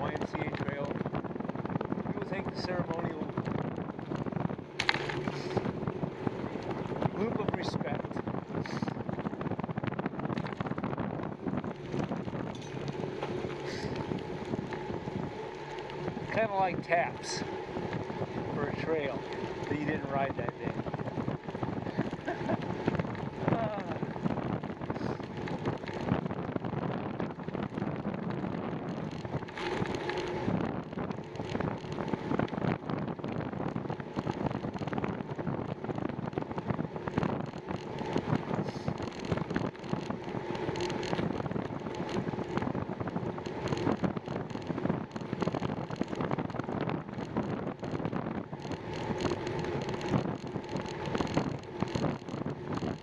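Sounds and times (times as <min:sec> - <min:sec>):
bicycle knocks and rattles: 0:00.0 - 0:53.0
wind buffeting microphone: 0:00.0 - 0:53.0.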